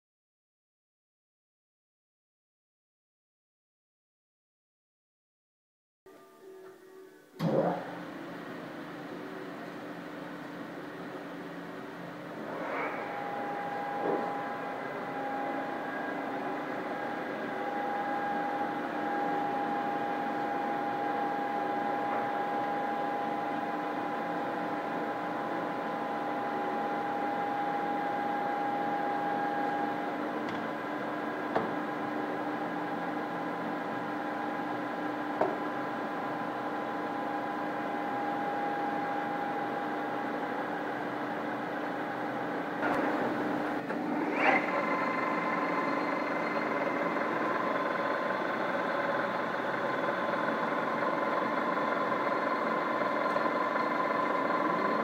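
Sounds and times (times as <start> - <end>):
lathe motor hum and whine: 7.4 - 55.0.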